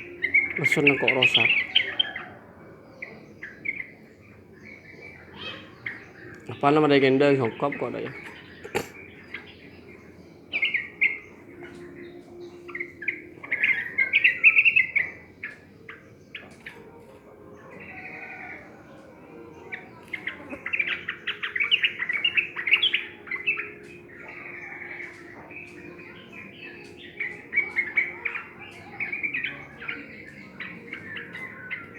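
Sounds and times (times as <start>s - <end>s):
bulbul chirping song: 0.0s - 31.9s.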